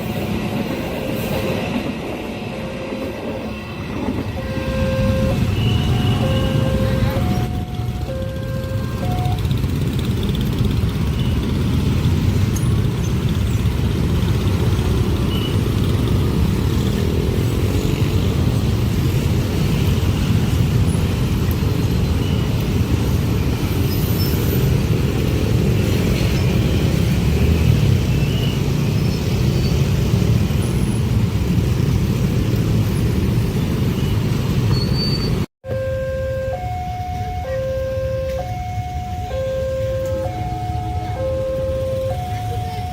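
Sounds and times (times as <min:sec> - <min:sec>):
train rumbling past: 0:00.0 - 0:35.5.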